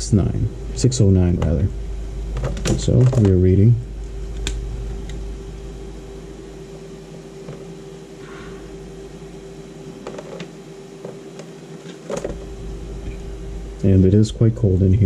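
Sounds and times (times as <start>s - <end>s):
electrical hum with low rumble: 0.0s - 15.0s.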